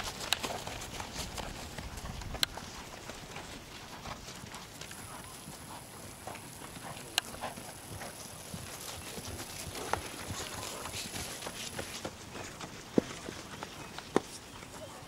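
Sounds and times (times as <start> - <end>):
horse trotting on grass: 0.0 - 15.0.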